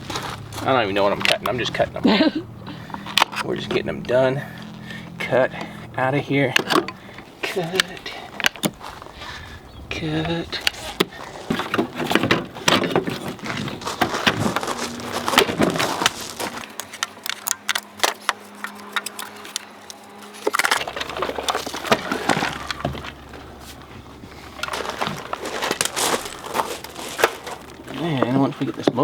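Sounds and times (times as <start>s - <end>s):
metal car parts clanking and rattling: 0.0s - 9.1s, 10.5s - 29.0s.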